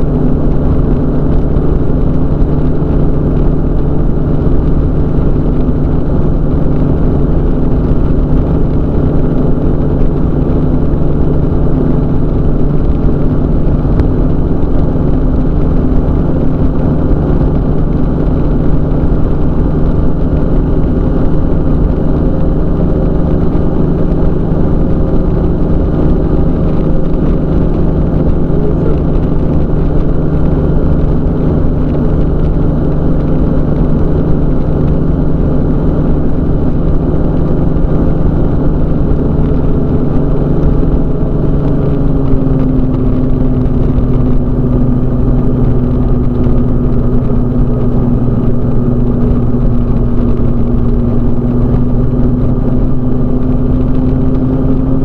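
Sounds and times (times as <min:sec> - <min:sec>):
microlight engine and propeller droning: 0:00.0 - 0:55.0.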